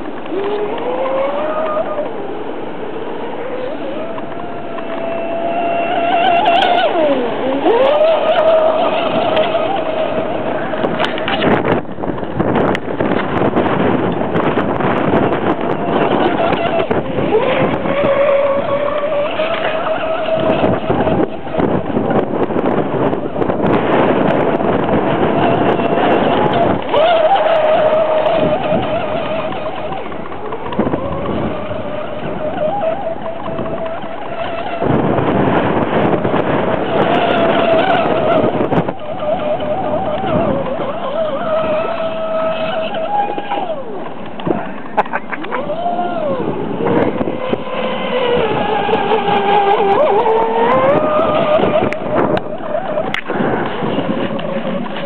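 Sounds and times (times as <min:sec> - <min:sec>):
high-pitched motor whine: 0:00.0 - 0:55.0.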